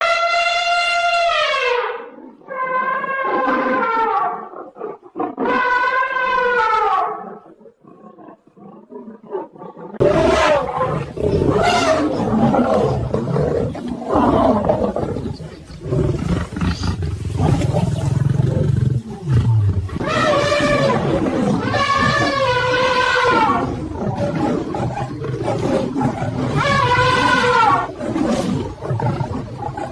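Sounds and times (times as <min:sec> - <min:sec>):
lions roaring and snarling: 0:01.5 - 0:29.9.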